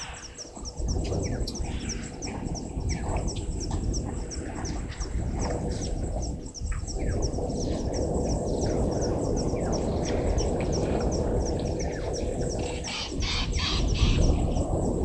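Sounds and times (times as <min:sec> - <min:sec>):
birds calling: 0:00.0 - 0:15.0
steady low rushing noise: 0:00.0 - 0:15.0.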